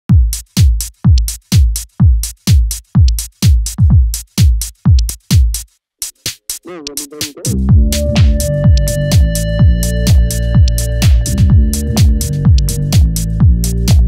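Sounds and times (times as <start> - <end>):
drum machine kick drum: 0.1 - 14.0.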